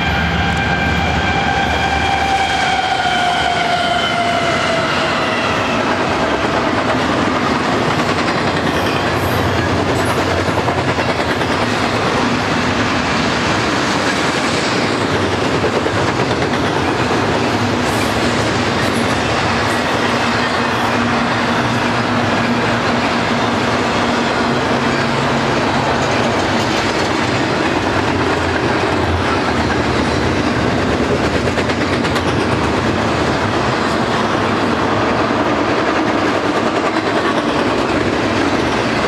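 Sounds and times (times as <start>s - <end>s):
locomotive whine: 0.0s - 39.0s
freight train wheels clattering: 1.4s - 39.0s.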